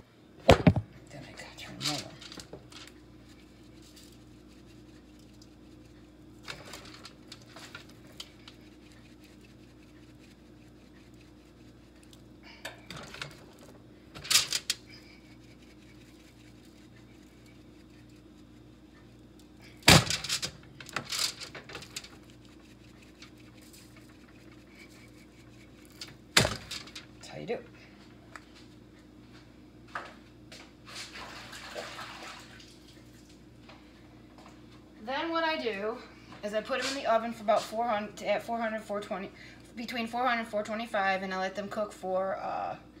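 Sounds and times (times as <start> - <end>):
steady low hum: 0.0 - 31.6, 32.6 - 43.0.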